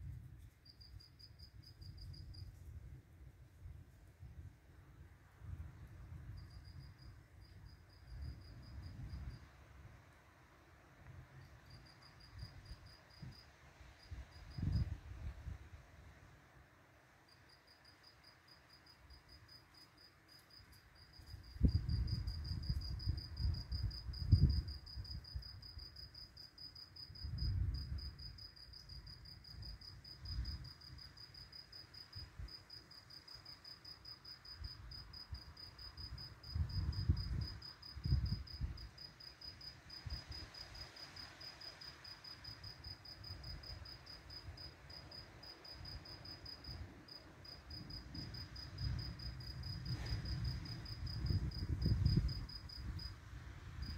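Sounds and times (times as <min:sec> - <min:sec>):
cricket chirping: 0:00.0 - 0:02.6, 0:05.5 - 0:10.1, 0:11.1 - 0:15.5, 0:17.2 - 0:53.9.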